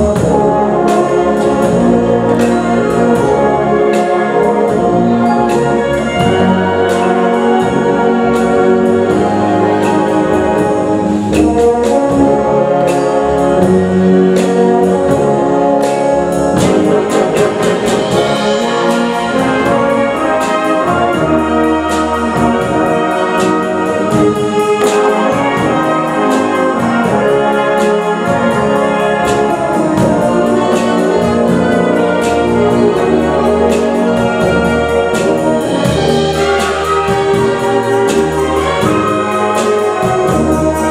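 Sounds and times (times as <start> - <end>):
brass-led wind band playing: 0.0 - 40.9.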